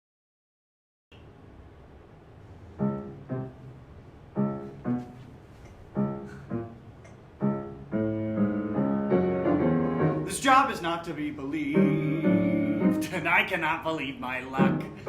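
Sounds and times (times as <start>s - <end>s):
piano chords: 2.5s - 15.0s.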